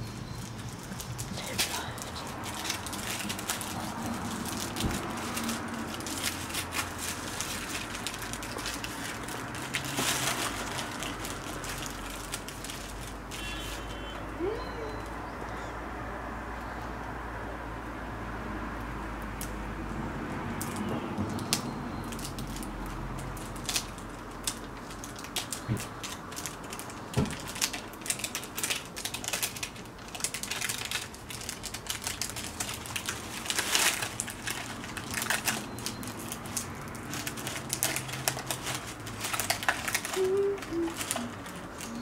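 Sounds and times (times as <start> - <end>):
paper and cardboard crinkling: 0.0 - 14.2, 22.1 - 42.0.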